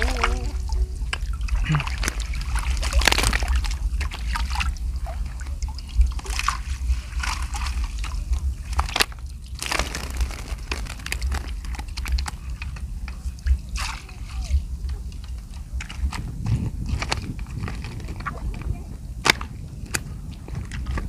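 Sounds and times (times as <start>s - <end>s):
seawater sloshing and splashing: 0.0s - 19.6s
low rumble: 0.0s - 21.0s.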